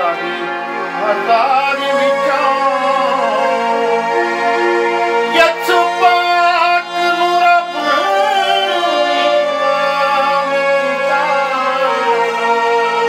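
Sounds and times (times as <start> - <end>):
man singing devotional song: 0.0 - 4.2, 5.2 - 13.0
instrumental drone: 0.0 - 13.0.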